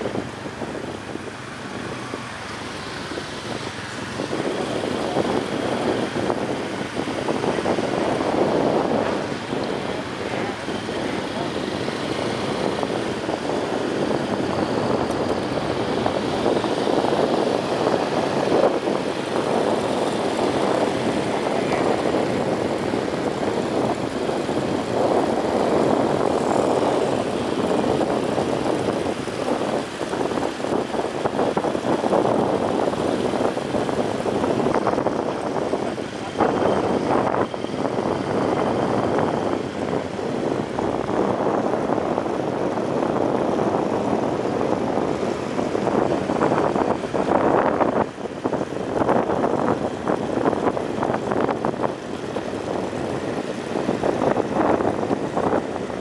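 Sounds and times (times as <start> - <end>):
motorcycle engine rumble: 0.0 - 56.0
wind rushing over microphone: 0.0 - 56.0.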